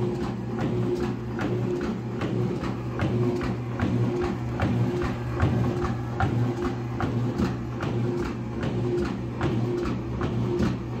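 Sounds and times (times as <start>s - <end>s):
regular pump clicks: 0.0s - 11.0s.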